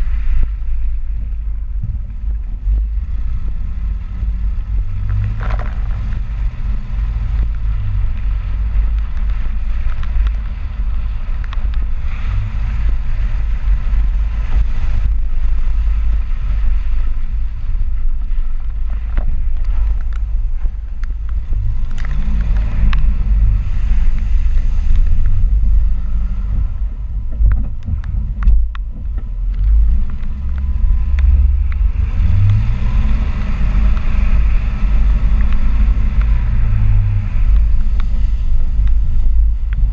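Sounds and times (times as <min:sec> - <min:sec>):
truck engine and road rumble: 0:00.0 - 0:39.9
wind noise: 0:00.0 - 0:39.9.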